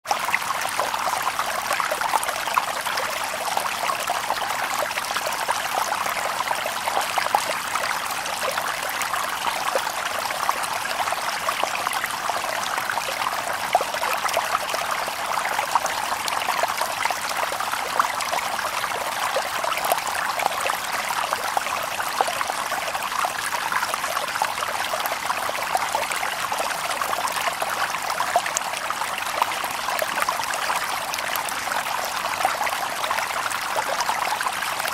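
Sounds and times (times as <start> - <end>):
stream babbling over stones: 0.1 - 34.9.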